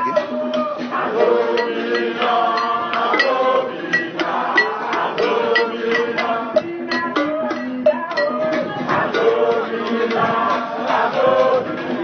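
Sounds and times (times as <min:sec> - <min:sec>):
crowd chanting: 0:00.0 - 0:12.0
percussion beat: 0:00.0 - 0:12.0.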